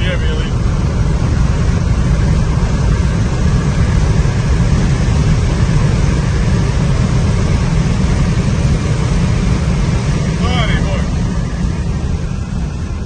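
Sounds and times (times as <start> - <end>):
tyre and wind roar: 0.0 - 13.0.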